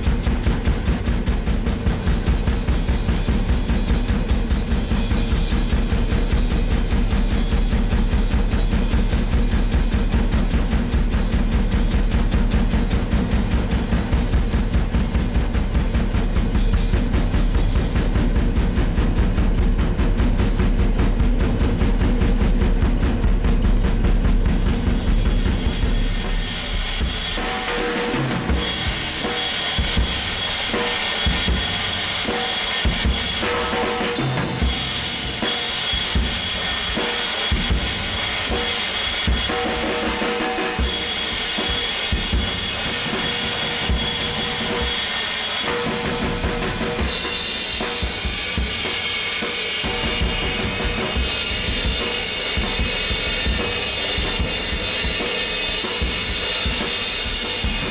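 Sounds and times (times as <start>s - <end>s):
drum kit playing: 0.0s - 57.9s.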